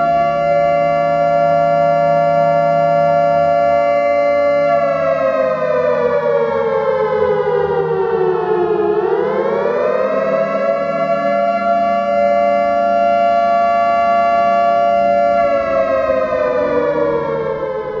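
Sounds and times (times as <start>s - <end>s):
civil defense siren wailing: 0.0s - 18.0s.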